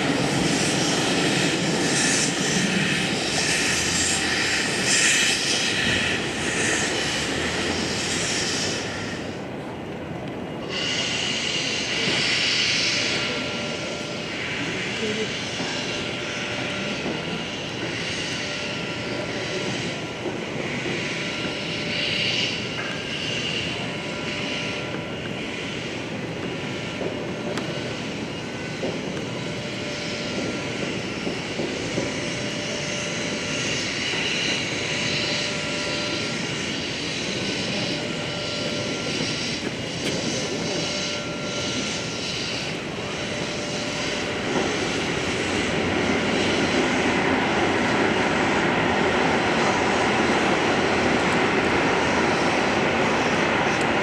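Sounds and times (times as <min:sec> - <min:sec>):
steam locomotive working: 0:00.0 - 0:54.0.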